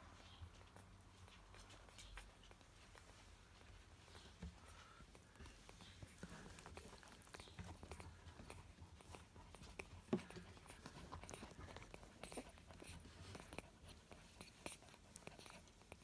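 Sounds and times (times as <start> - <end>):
puppies suckling wet smacking: 0.0 - 16.0.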